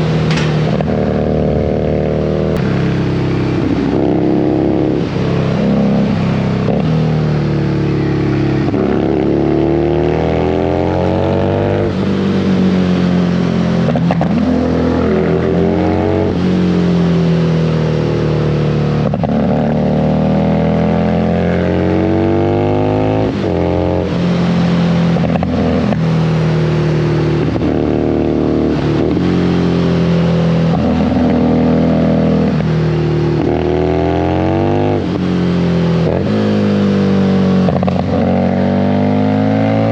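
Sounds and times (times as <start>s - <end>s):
motorcycle engine revving: 0.0s - 39.9s
wind and road rush: 0.0s - 39.9s.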